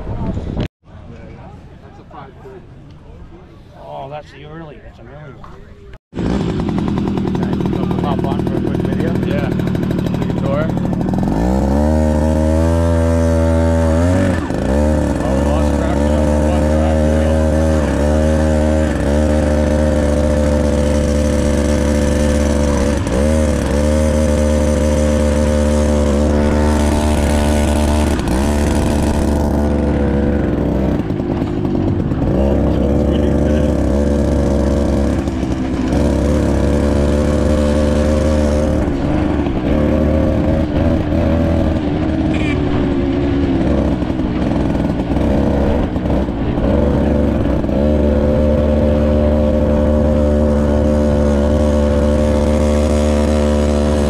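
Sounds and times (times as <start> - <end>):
mini bike engine running: 6.2 - 54.0.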